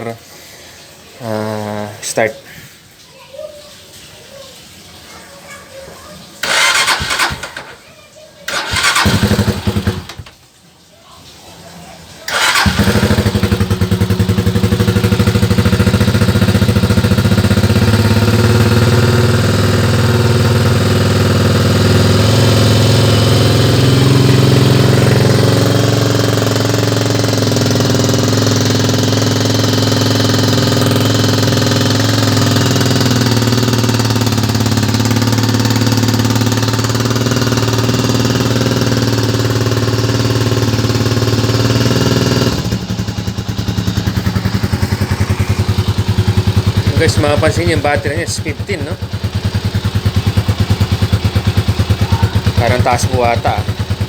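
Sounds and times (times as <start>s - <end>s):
motorcycle engine idling: 6.4s - 7.8s, 8.5s - 10.4s, 12.3s - 54.0s.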